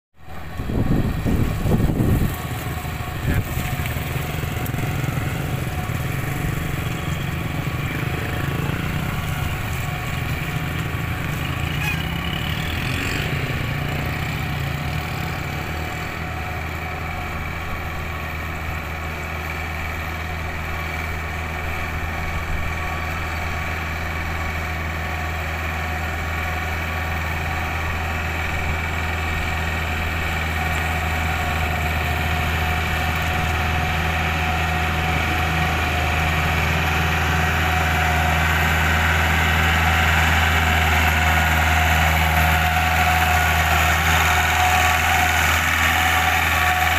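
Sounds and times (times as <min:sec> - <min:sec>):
tractor diesel engine running: 0:00.2 - 0:46.9.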